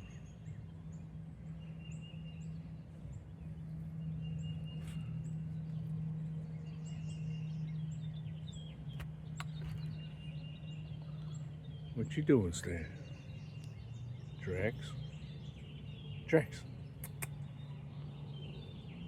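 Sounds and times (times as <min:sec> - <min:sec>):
bird trill: 0:00.0 - 0:19.0
steady low hum: 0:00.0 - 0:19.0.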